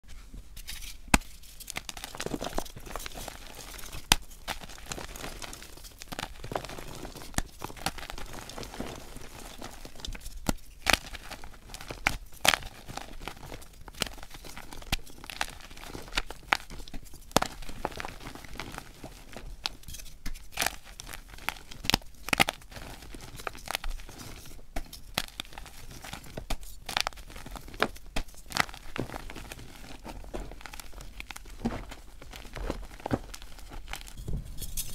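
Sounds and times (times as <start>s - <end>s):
chalk blocks crunching and crumbling: 0.6s - 34.9s.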